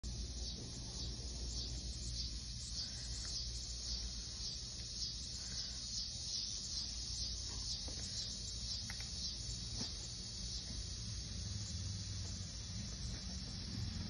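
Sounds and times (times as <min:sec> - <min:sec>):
insects trilling: 0:00.0 - 0:14.0
low steady rumble: 0:00.0 - 0:14.0.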